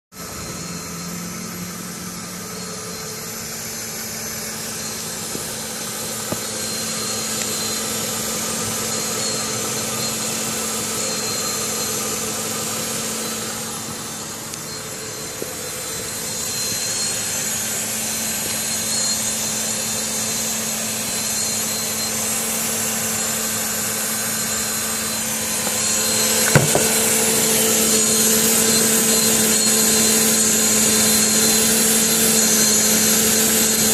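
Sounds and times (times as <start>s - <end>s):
car engine idling: 0.2s - 31.4s.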